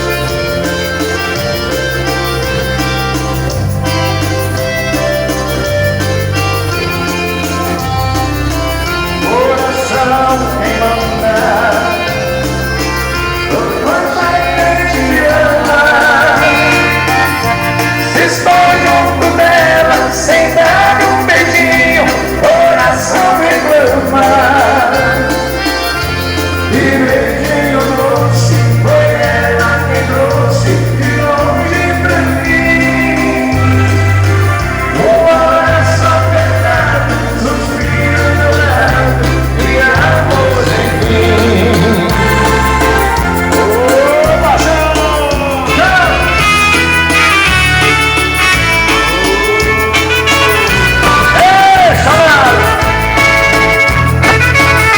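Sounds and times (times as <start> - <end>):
live band playing a waltz: 0.0 - 54.9.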